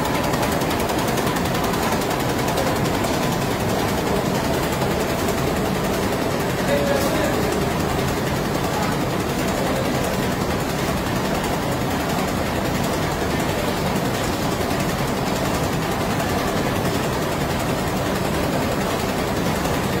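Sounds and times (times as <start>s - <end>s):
label machine running: 0.0s - 20.0s.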